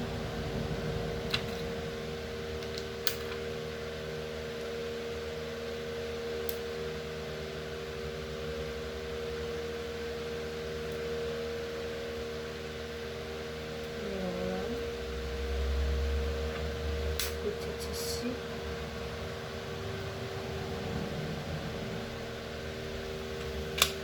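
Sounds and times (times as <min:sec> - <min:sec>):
electric fan humming: 0:00.0 - 0:24.0.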